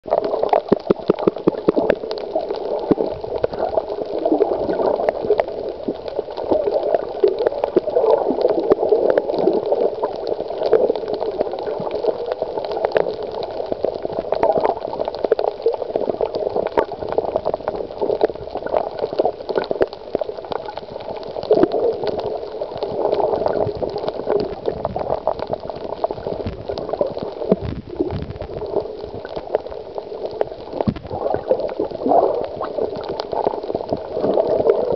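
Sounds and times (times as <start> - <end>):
muffled underwater bubbling: 0.0 - 34.9.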